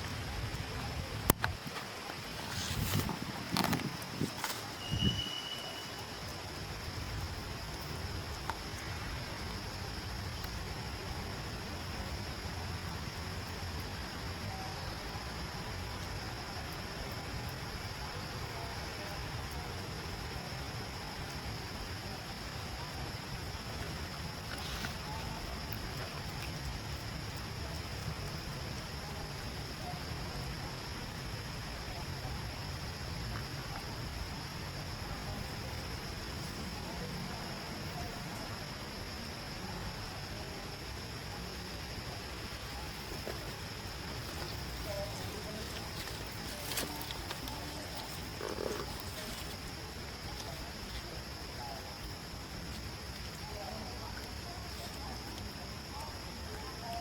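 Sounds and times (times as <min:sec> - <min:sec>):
constant high hiss: 0:00.0 - 0:57.0
outdoor background noise: 0:00.0 - 0:57.0.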